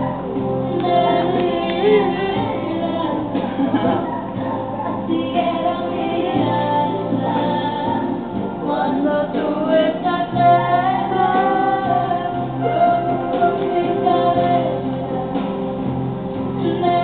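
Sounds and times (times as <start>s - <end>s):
woman singing: 0.0s - 15.8s, 16.6s - 17.0s
background music: 0.0s - 17.0s.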